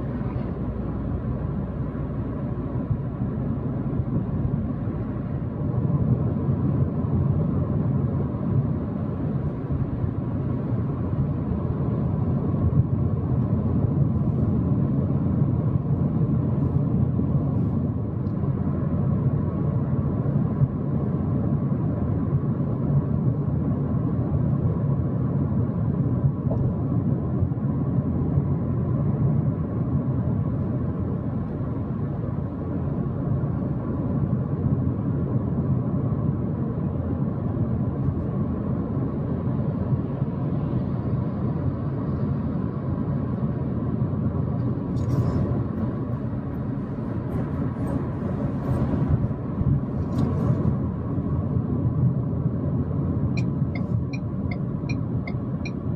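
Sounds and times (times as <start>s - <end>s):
car road noise: 0.0s - 55.9s.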